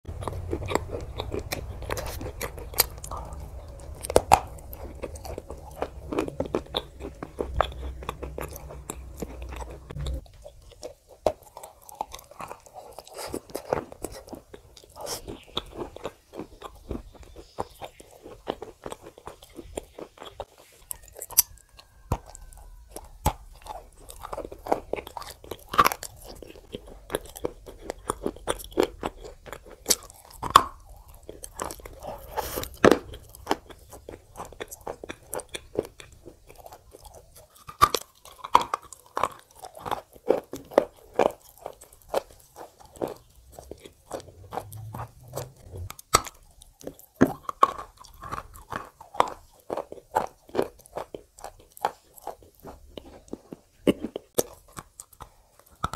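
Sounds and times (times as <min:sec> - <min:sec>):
crunching and chewing clay: 0:00.0 - 0:55.9.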